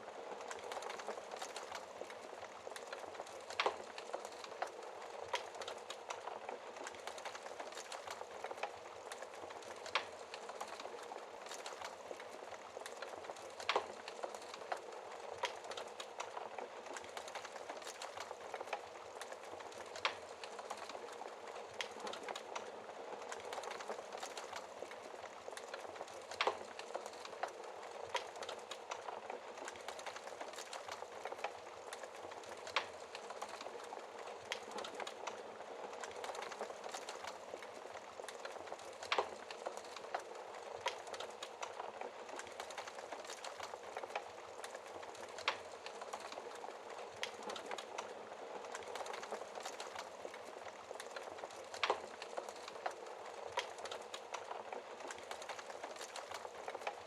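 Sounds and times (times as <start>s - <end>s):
wood fire crackling in fireplace: 0.0s - 57.0s.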